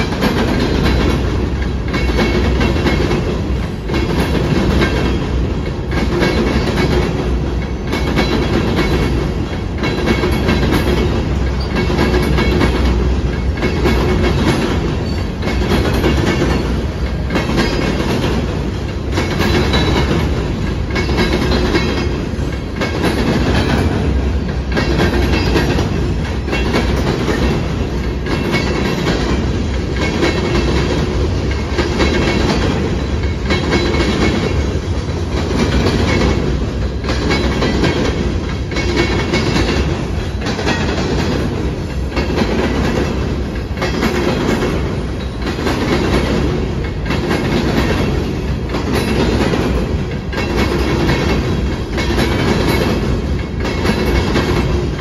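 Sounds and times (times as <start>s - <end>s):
train wheels clacking over rails: 0.0s - 55.0s.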